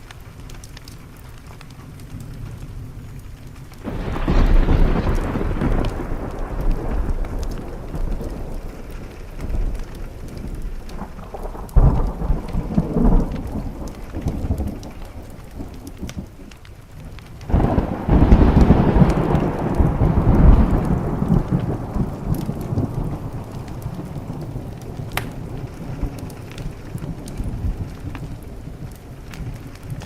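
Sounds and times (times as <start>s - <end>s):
rain on a window: 0.0s - 30.0s
thunder rumbling: 0.0s - 30.0s.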